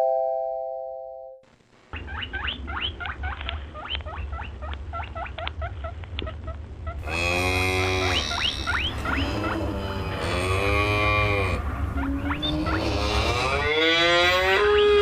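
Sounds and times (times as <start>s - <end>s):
rabbit squeaking: 1.9s - 15.0s.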